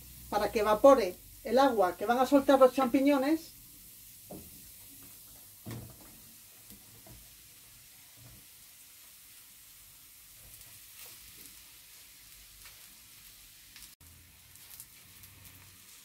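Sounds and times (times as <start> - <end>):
mushrooms sizzling in oil: 0.0 - 16.0.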